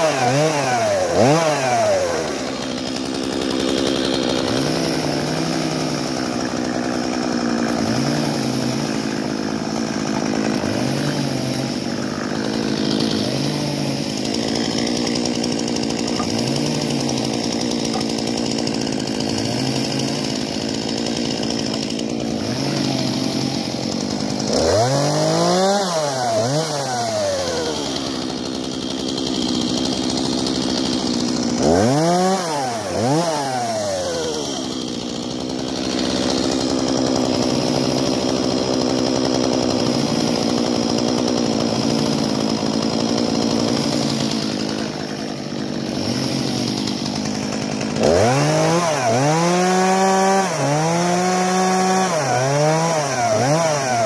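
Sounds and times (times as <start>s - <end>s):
chainsaw idling and revving: 0.0s - 54.0s.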